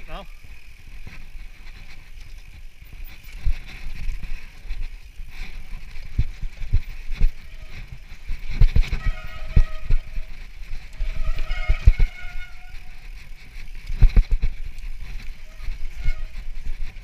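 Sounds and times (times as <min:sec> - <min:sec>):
bike tyres rolling on dirt: 0:00.0 - 0:17.0.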